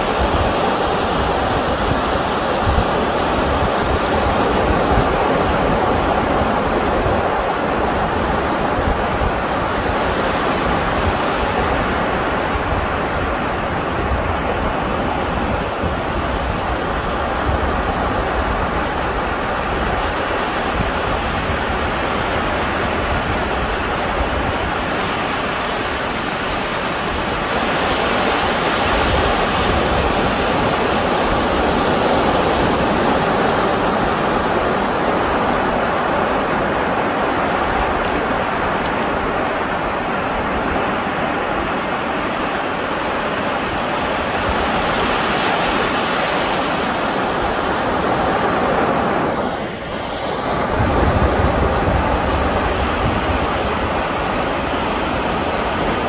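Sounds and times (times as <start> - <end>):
sea surf washing on shore: 0.0 - 56.0
wind rumbling on microphone: 0.0 - 56.0.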